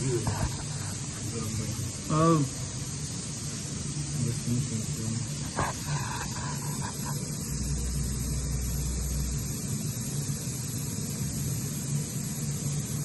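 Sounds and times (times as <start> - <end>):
deep machinery rumble: 0.0 - 11.6
machinery hum with hiss: 0.0 - 13.0.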